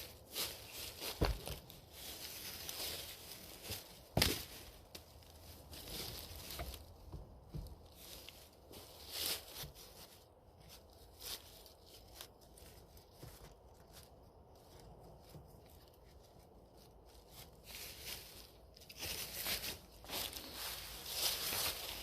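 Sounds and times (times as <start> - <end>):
dry leaves and twigs crunching: 0.0 - 22.0.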